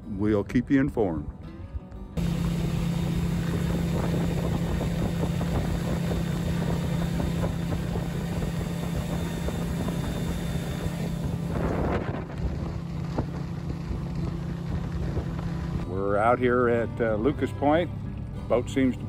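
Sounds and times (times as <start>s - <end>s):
outboard motor droning: 2.2s - 19.0s
rushing boat wake: 2.2s - 19.0s.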